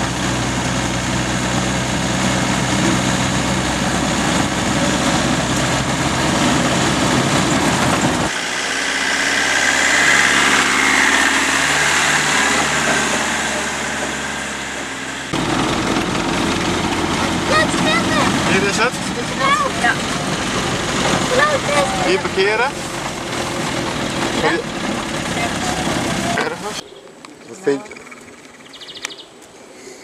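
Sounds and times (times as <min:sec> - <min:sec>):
vehicle driving past on dirt road: 0:00.0 - 0:26.8.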